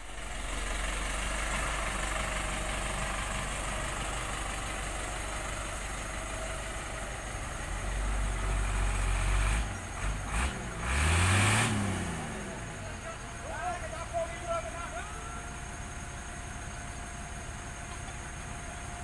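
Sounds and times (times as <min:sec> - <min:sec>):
tractor diesel engine idling: 0:00.0 - 0:11.2, 0:11.8 - 0:19.0.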